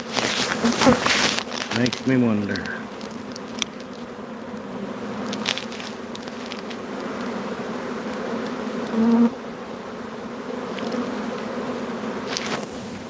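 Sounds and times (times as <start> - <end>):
bee swarm buzzing: 0.0 - 13.0
single bee buzzing close: 0.0 - 13.0.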